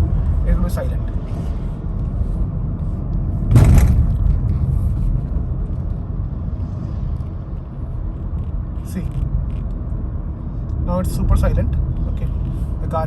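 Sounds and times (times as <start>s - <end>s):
engine and road rumble in cabin: 0.0s - 13.0s.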